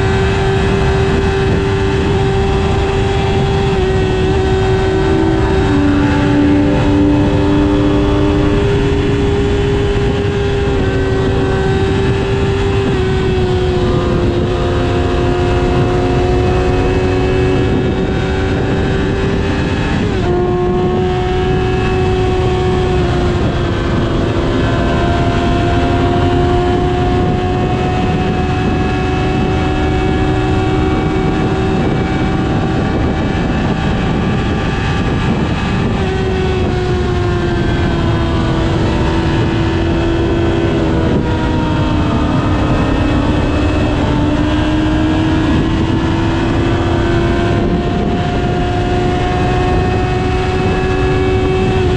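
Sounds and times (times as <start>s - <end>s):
motorcycle engine running at speed: 0.0s - 51.9s
wind rush: 0.0s - 51.9s.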